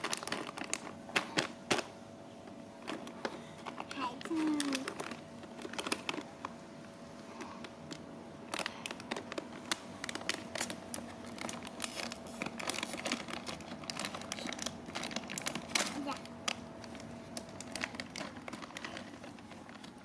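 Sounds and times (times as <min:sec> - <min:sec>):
plastic snack packet crinkling: 0:00.0 - 0:20.0.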